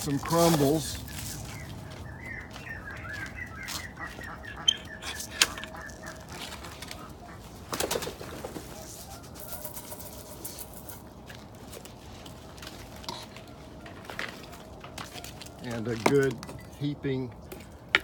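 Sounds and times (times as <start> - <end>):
birds chirping: 0.0 - 11.0, 13.2 - 18.0.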